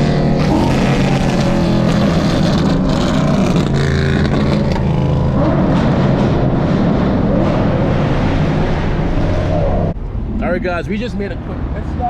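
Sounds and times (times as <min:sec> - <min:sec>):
loud car exhaust: 0:00.0 - 0:10.3.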